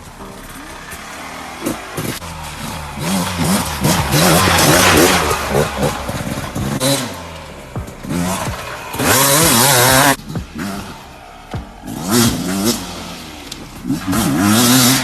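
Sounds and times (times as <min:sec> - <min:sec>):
engine revving hard: 0:00.0 - 0:15.0
loud rushing noise: 0:00.0 - 0:15.0.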